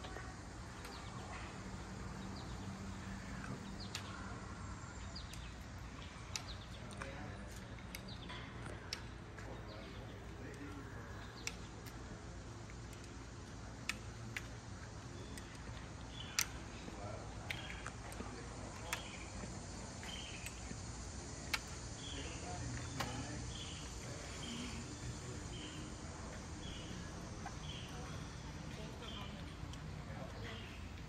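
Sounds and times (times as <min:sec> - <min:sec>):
low background noise: 0:00.0 - 0:31.0
sharp clicks: 0:02.0 - 0:31.0.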